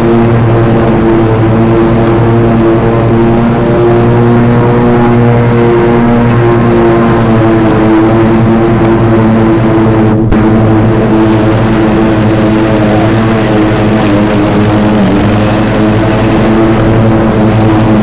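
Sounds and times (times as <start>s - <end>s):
riding mower engine: 0.0s - 18.0s.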